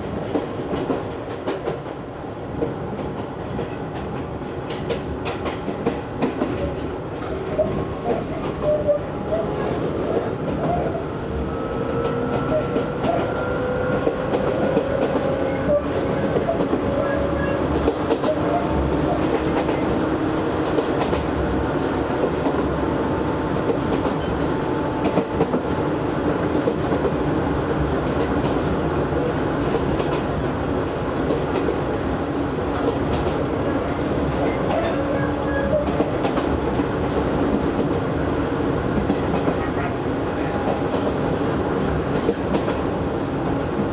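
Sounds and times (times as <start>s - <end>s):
train interior rumble: 0.0s - 43.9s.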